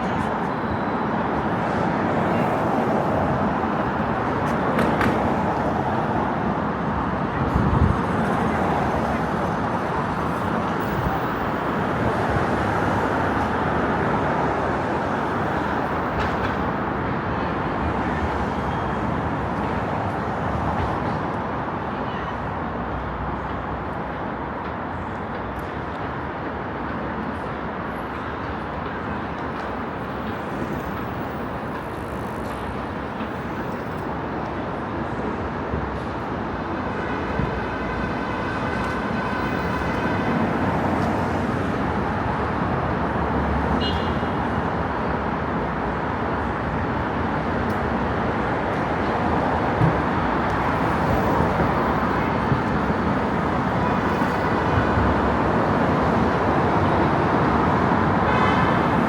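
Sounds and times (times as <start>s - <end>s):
city road traffic: 0.0s - 59.0s.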